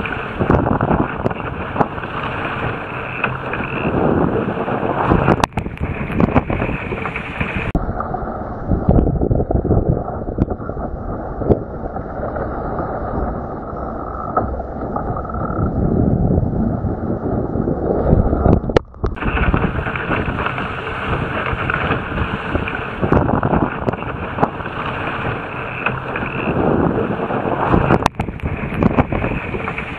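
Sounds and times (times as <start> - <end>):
water splashing against hull: 0.0 - 29.9
wind buffeting microphone: 0.0 - 29.9.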